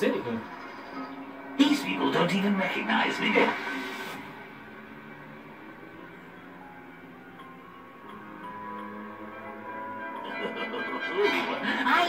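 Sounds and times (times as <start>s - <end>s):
quiet film score music: 0.0s - 12.0s.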